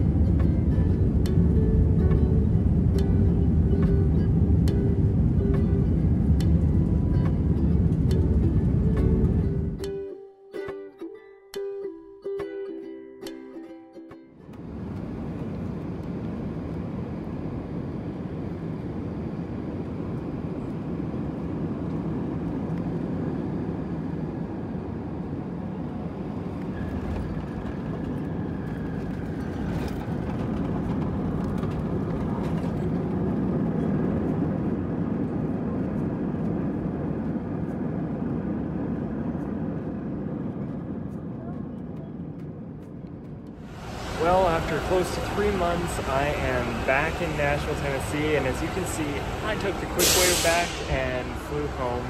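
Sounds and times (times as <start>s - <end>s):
jet cabin roar: 0.0s - 10.0s, 14.5s - 52.0s.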